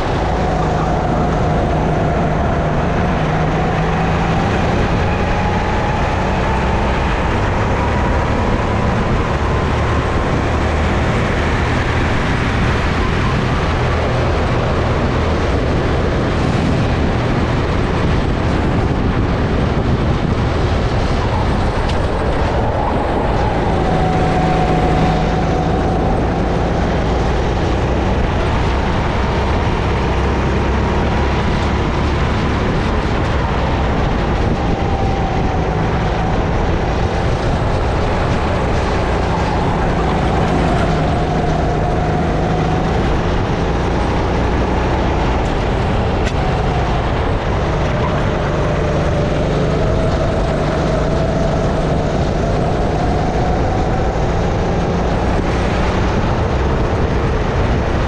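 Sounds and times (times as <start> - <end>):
kart engine revving: 0.0 - 58.0
steady rush of noise: 0.0 - 58.0.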